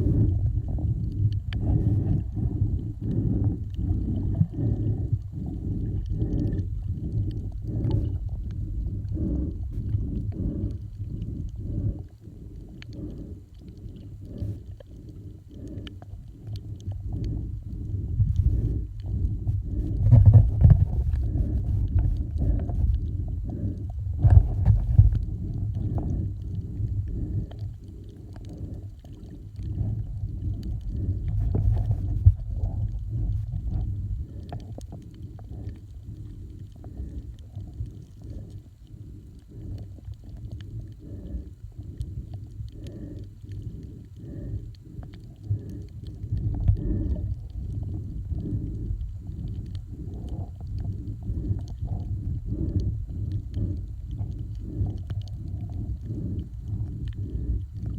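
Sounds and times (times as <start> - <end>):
muffled water rumbling and sloshing: 0.0 - 57.9.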